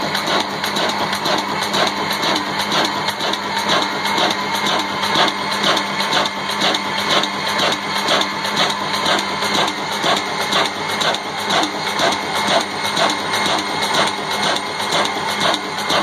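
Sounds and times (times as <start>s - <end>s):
diesel engine clattering: 0.0s - 16.0s.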